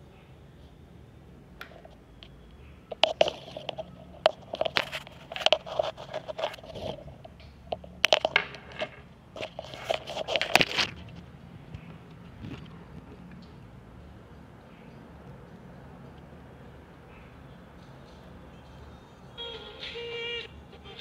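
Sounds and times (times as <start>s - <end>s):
crackling and clicking earbud wires: 1.6s - 21.0s.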